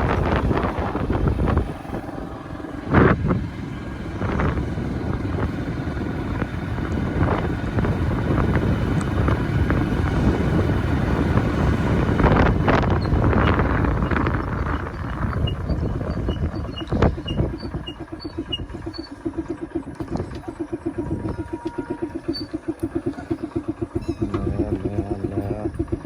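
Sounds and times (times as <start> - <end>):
low rumble: 0.0 - 26.0
wind buffeting microphone: 0.0 - 26.0.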